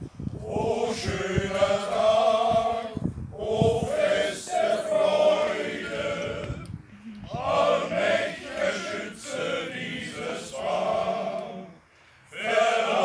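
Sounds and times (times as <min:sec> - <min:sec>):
men's choir singing: 0:00.4 - 0:06.6, 0:07.2 - 0:13.0.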